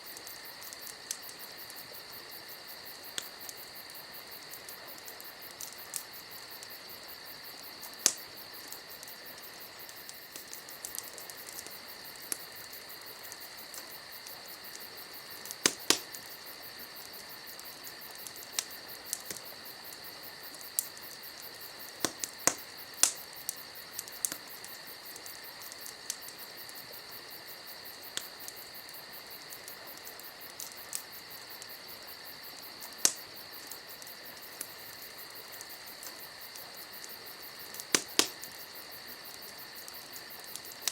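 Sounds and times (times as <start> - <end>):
campfire crackling and popping: 0.0 - 40.9
insects chirring: 0.0 - 40.9.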